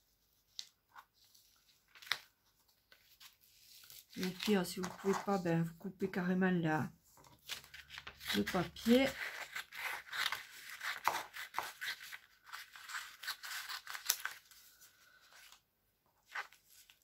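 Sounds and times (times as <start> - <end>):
paper rustling and crackling: 0.4 - 5.5, 7.1 - 15.6, 16.2 - 17.0.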